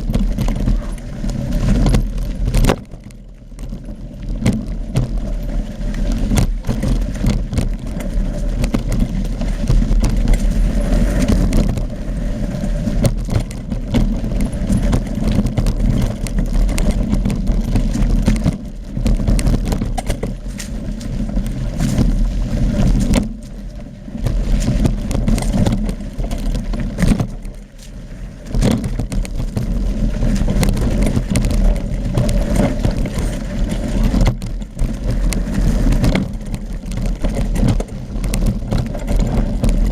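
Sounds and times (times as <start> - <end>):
bike rattling and knocking: 0.0 - 39.9
low wind rumble: 0.0 - 39.9.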